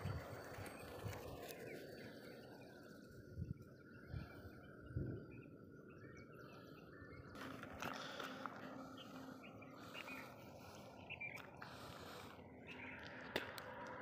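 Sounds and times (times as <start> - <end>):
bird chirps: 0.0 - 13.9
insect-like drone: 0.0 - 14.0.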